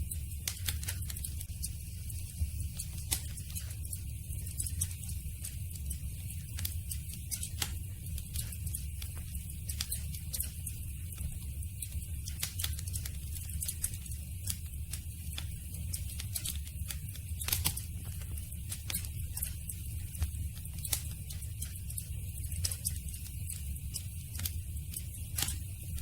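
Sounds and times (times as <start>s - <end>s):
campfire crackling and popping: 0.3s - 26.0s.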